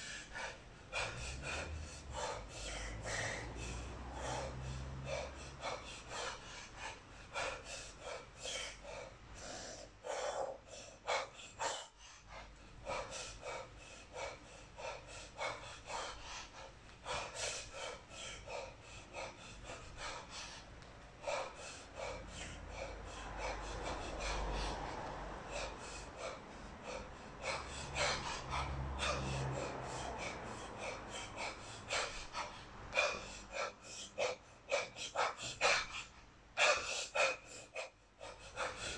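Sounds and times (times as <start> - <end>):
man breathing hard: 0.0 - 38.9.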